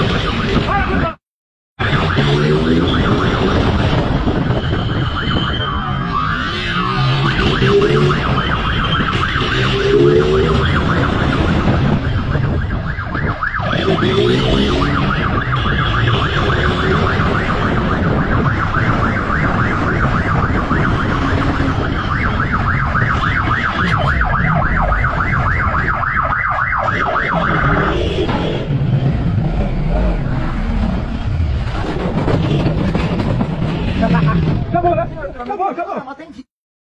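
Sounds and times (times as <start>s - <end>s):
motorcycle siren yelping: 0.0s - 1.2s, 1.8s - 31.6s.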